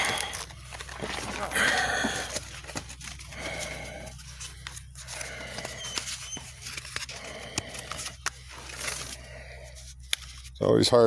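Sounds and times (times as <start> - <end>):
plastic packaging crinkling and clicking: 0.0 - 9.3.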